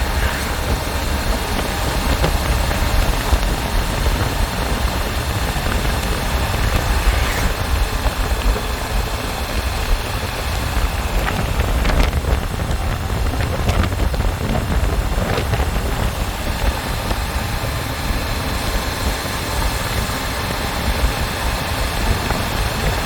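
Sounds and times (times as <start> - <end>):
motorcycle engine: 0.0 - 23.0
road noise: 0.0 - 23.0
wind rumble on microphone: 0.0 - 23.0.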